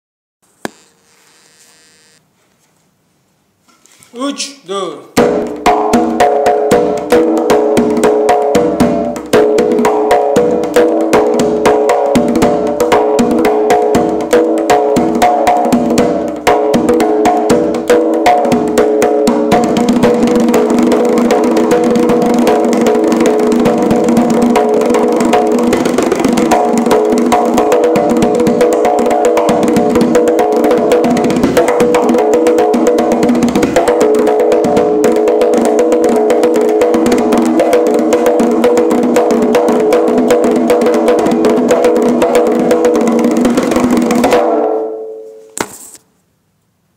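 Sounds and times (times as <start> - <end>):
hand drum strikes and rolls: 5.2 - 45.7.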